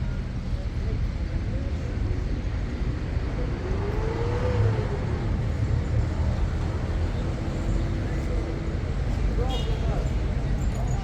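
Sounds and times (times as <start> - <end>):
vehicle rumbling: 0.0 - 11.0.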